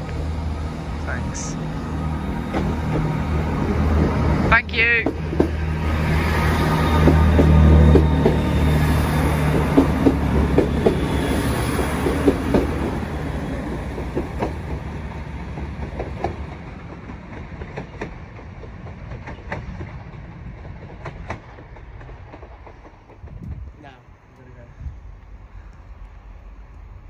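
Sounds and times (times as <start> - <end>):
train diesel engine hum: 0.0 - 27.0
train wheels clicking on rail joints: 1.9 - 27.0.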